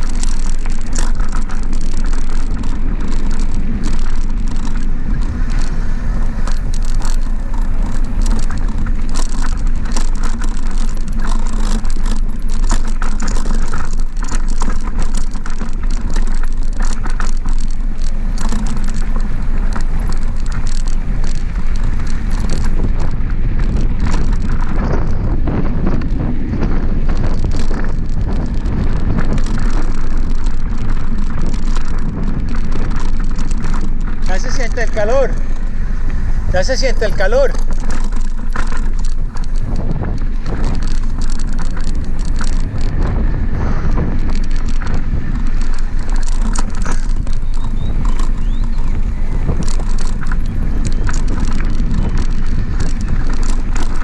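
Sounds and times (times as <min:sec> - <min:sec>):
bike rattling and clicking: 0:00.0 - 0:54.0
tyres on gravel: 0:00.0 - 0:54.0
wind buffeting microphone: 0:00.0 - 0:54.0.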